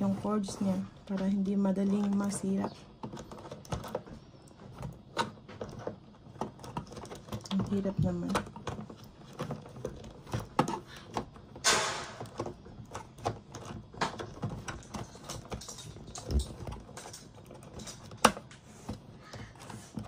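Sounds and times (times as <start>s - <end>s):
plastic clicks and rattles: 0.0s - 20.0s
plastic rasp: 0.0s - 20.0s.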